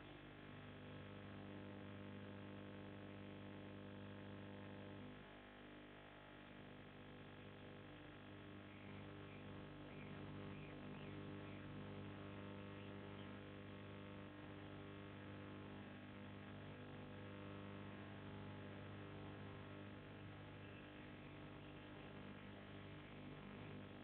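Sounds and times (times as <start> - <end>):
faint electrical hum with hiss: 0.0 - 24.0.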